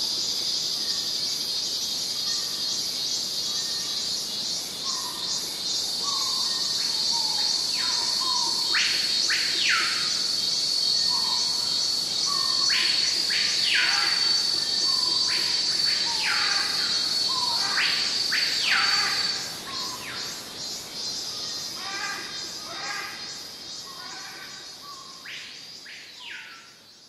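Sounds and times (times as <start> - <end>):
pulsing insect trill: 0.0 - 26.9.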